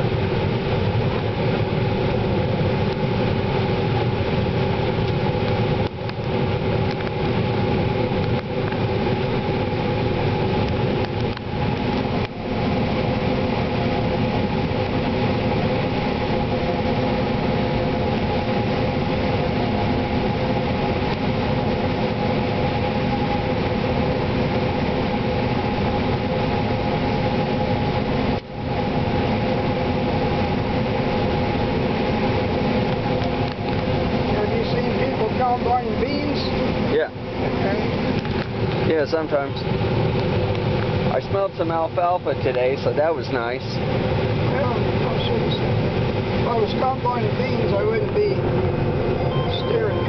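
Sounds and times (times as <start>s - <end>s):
combine harvester drone: 0.0s - 50.0s
machine whining tones: 7.7s - 50.0s.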